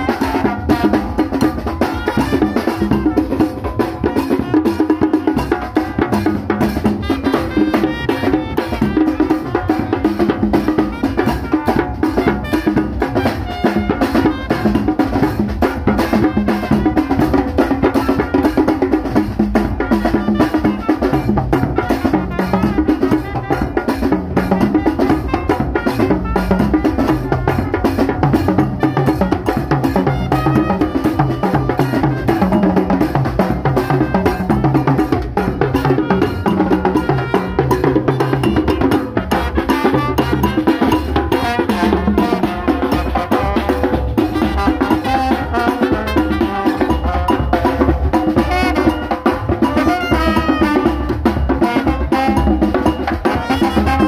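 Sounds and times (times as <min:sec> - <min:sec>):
bass drum: 0:00.0 - 0:54.0
brass band playing: 0:00.0 - 0:54.0
snare drum: 0:00.0 - 0:54.0
tenor drums with cymbal: 0:00.0 - 0:54.0.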